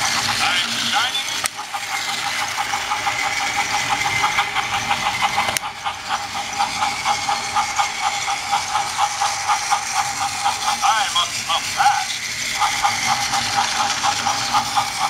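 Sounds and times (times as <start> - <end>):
rapid ticking of gears: 0.0 - 15.0
toy train motor whine: 0.0 - 15.0.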